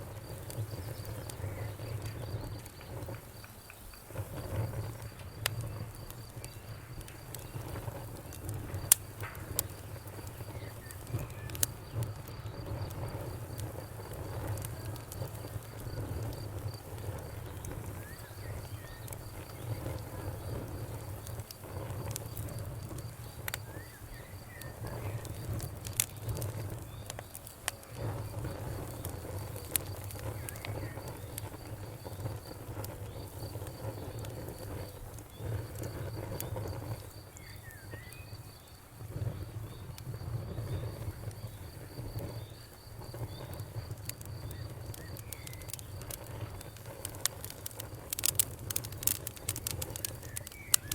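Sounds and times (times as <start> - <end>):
crickets chirping: 0.0 - 50.9
low rumble of flames: 0.0 - 50.9
wood fire crackling and popping: 0.0 - 50.9.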